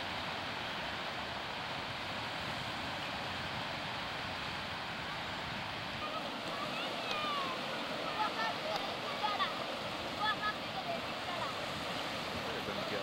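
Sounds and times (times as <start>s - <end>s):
small surf waves breaking: 0.0s - 13.0s.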